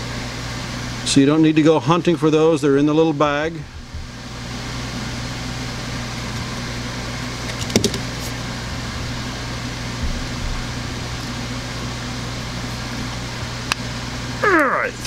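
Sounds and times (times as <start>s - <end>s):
steady workshop hum: 0.0s - 15.0s.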